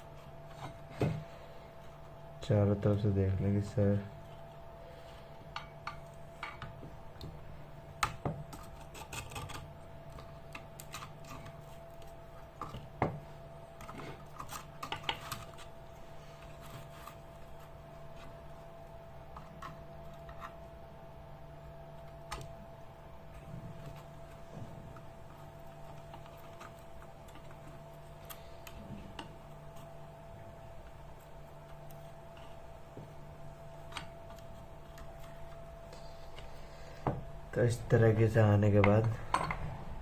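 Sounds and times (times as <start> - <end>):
faint hum: 0.0 - 40.0.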